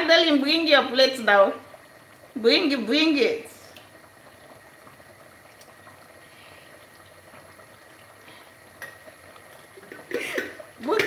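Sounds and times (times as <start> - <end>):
sauce bubbling and popping: 0.5 - 11.0.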